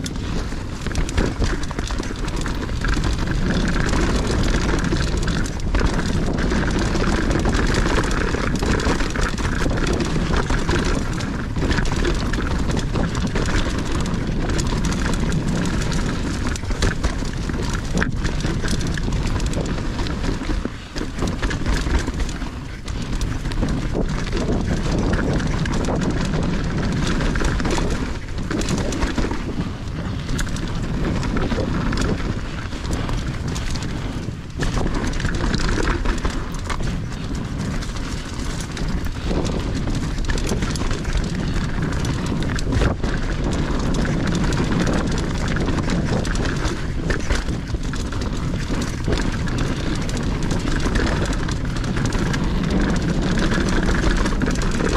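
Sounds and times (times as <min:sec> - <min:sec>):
bike knocking and rattling: 0:00.0 - 0:54.9
tyres rumbling on dirt: 0:00.0 - 0:54.9
wind on microphone: 0:00.0 - 0:54.9.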